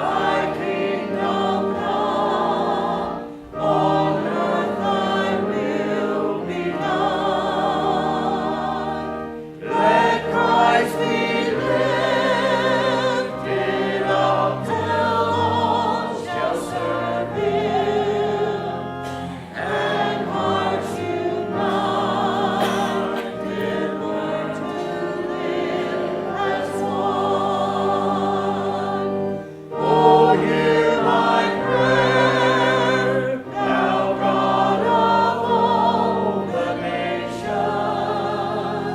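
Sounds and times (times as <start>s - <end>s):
choir and congregation singing hymn: 0.0s - 38.9s
sustained instrumental accompaniment: 0.0s - 38.9s.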